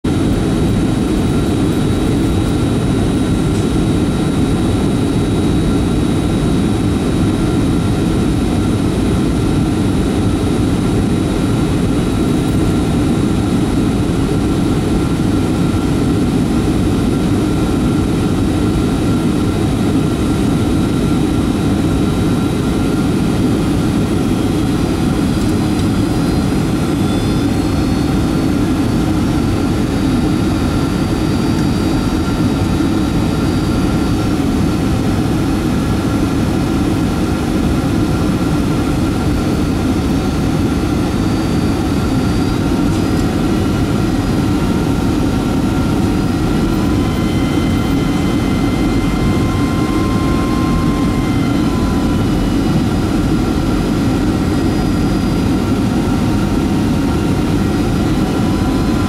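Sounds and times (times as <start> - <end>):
aircraft cabin drone: 0.1 - 59.0
high-pitched whines: 0.1 - 59.0.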